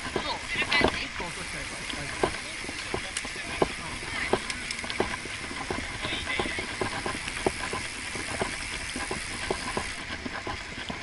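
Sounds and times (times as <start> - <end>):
sharp bicycle clicks and knocks: 0.0 - 11.0
wind and tyre noise: 0.0 - 11.0.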